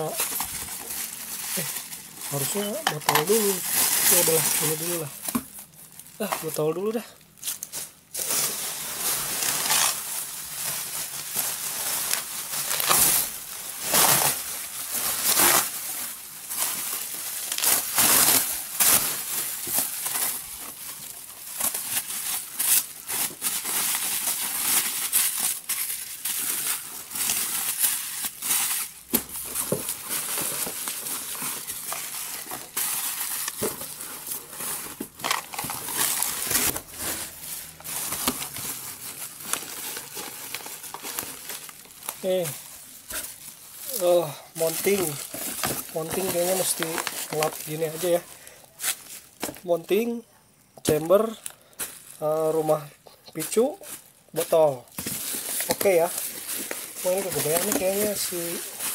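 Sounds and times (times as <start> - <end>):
bubble wrap crinkling: 0.0 - 50.2, 50.8 - 58.9.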